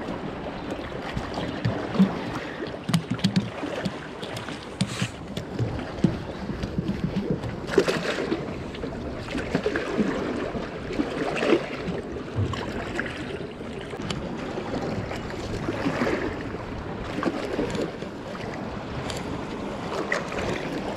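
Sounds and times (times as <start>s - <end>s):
water lapping against steps: 0.0s - 20.9s
wind buffeting microphone: 0.0s - 20.9s.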